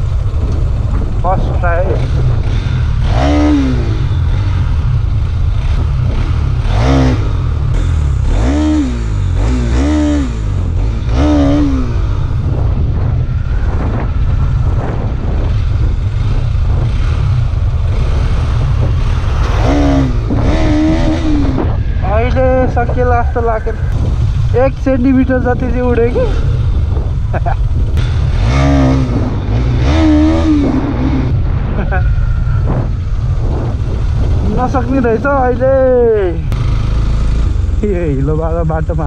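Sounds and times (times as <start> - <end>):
vehicle rumble: 0.0 - 39.0.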